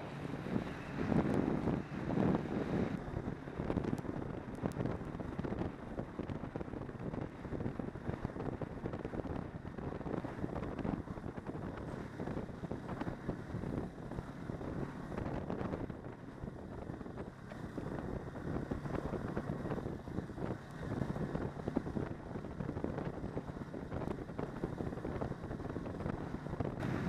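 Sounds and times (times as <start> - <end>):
snowmobile engine running: 0.0 - 27.0
wind buffeting microphone: 0.0 - 27.0.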